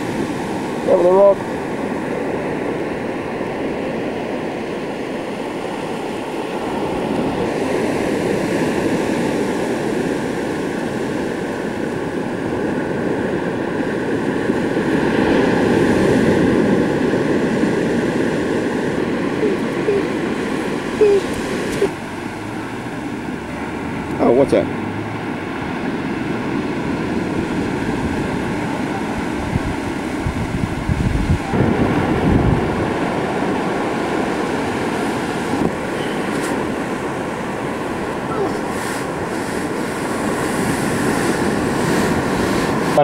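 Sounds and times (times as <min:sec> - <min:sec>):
surf breaking on beach: 0:00.0 - 0:43.0.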